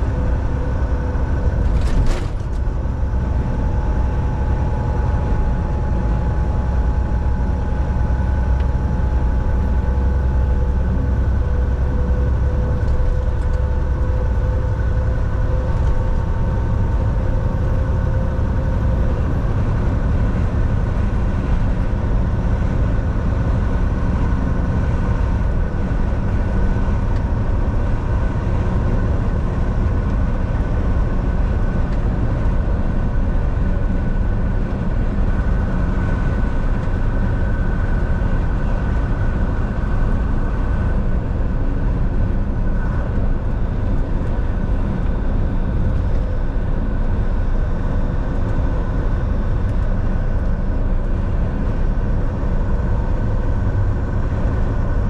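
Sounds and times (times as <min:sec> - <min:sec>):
road and tyre noise: 0:00.0 - 0:55.0
truck engine drone: 0:00.0 - 0:55.0.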